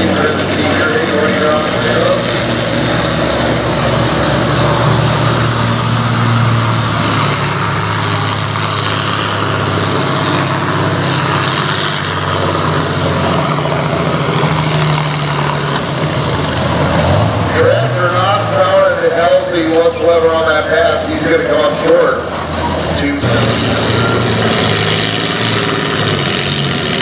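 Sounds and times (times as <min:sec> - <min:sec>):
tractor engine under full load: 0:00.0 - 0:27.0.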